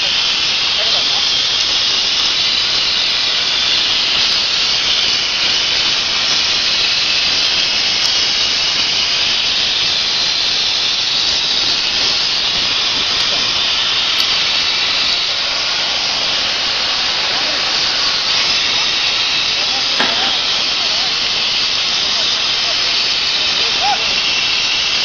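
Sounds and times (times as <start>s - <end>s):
plasma cutter torch hissing: 0.0s - 25.0s.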